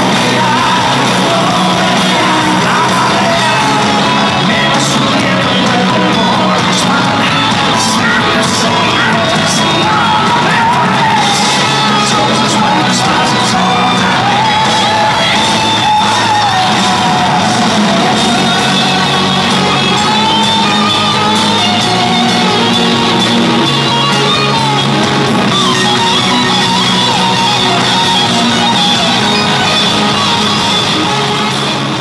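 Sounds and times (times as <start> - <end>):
live pop-rock band playing: 0.0 - 32.0.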